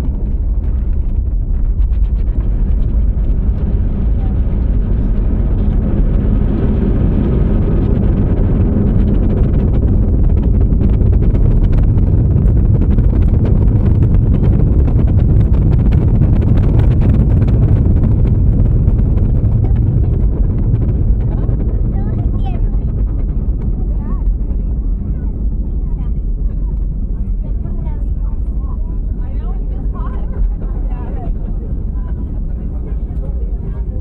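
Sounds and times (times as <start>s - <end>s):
landing gear rumble: 0.0s - 34.0s.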